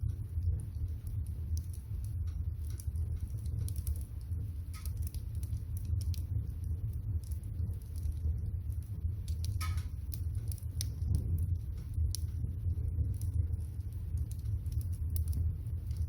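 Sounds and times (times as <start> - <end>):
low rumble of fire: 0.0 - 16.0
wood fire crackling: 0.0 - 16.0.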